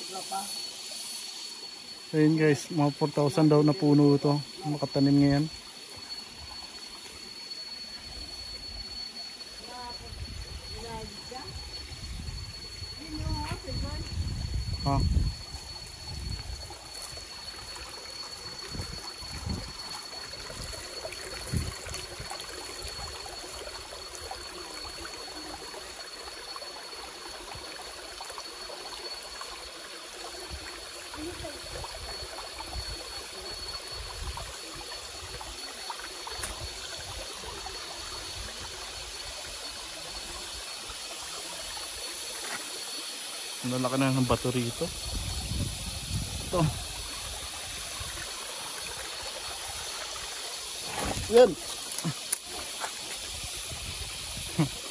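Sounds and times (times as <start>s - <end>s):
creek trickling over stones: 0.0s - 54.9s.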